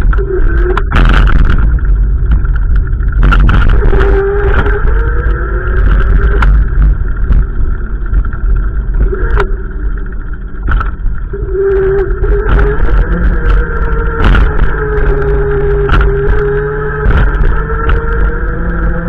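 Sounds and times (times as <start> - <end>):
wind buffeting microphone: 0.0 - 19.0
wavering tone: 2.5 - 19.0.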